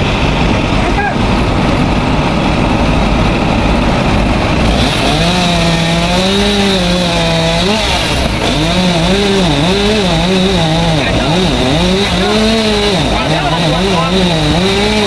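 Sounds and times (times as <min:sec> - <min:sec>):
chainsaw cutting tree trunk: 0:00.0 - 0:15.0
low engine rumble: 0:00.0 - 0:15.0.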